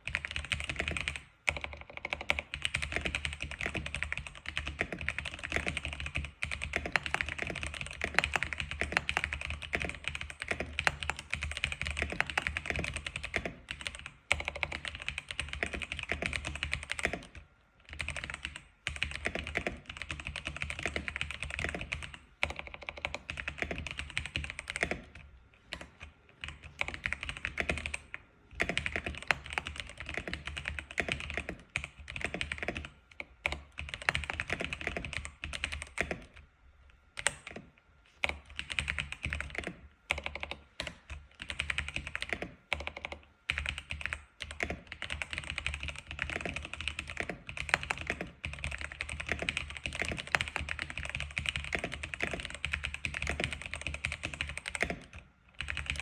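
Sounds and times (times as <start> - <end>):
fast keyboard typing: 0.0 - 36.4, 37.2 - 56.0.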